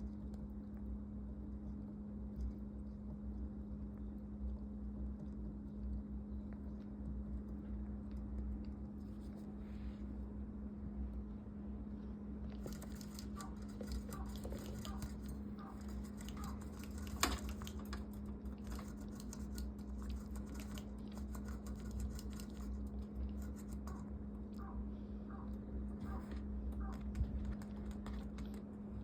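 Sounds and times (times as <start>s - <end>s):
light rapid scratching and clicking: 0.0s - 9.6s, 12.4s - 24.7s, 25.4s - 29.0s
steady low hum: 0.0s - 29.0s.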